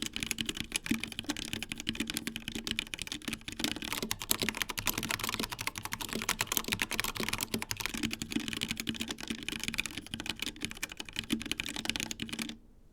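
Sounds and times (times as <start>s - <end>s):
fast mechanical keyboard typing: 0.0s - 12.6s.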